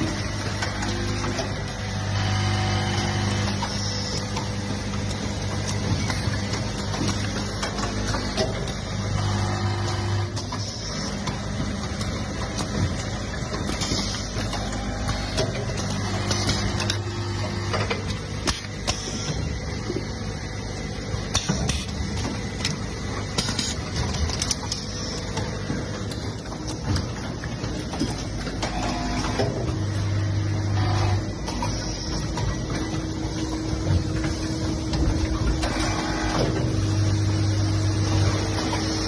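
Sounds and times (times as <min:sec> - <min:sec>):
machine mechanical clatter: 0:00.0 - 0:39.0.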